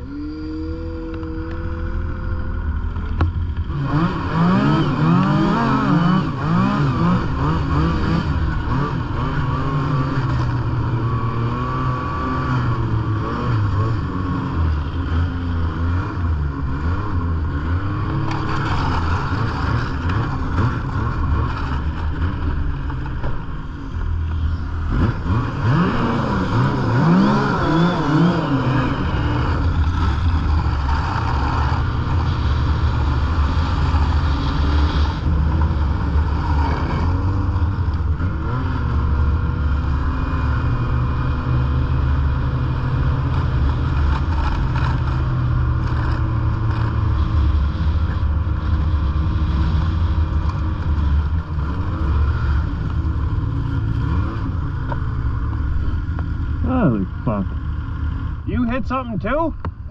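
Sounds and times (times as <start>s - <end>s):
snowmobile engine revving: 0.0s - 23.2s, 23.8s - 59.9s.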